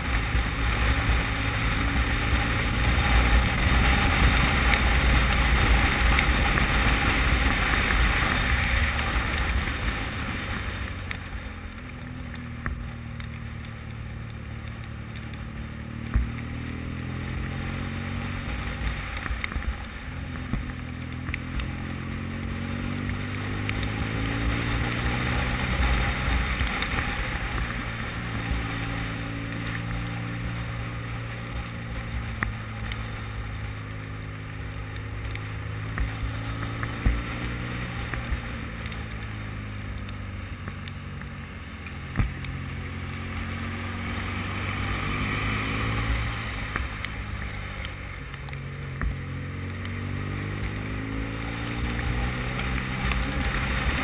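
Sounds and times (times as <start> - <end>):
motorcycle engine: 0.0 - 54.0
tyres on wet tarmac: 0.0 - 54.0.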